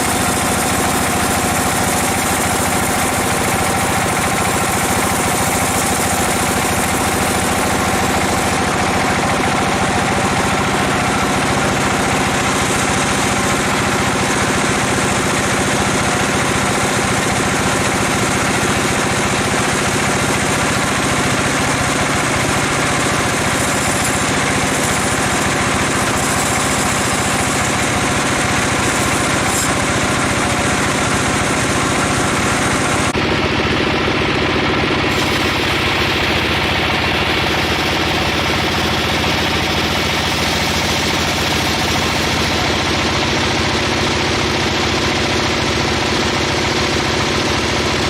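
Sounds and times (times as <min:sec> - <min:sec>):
harsh mechanical rattle: 0:00.0 - 0:48.0
sawmill engine drone: 0:00.0 - 0:48.0.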